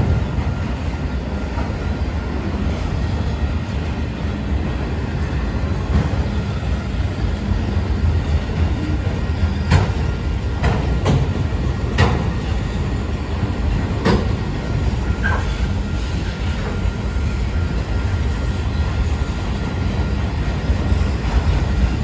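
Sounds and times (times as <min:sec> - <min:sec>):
freight train rumble: 0:00.0 - 0:22.0.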